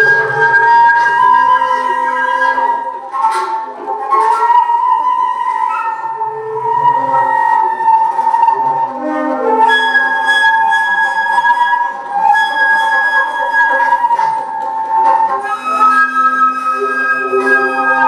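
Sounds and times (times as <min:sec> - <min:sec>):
alto flute long notes: 0:00.0 - 0:18.0.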